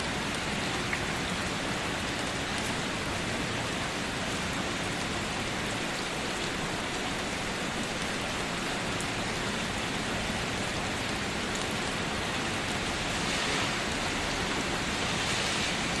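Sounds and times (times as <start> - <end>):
steady pouring rain: 0.0 - 16.0.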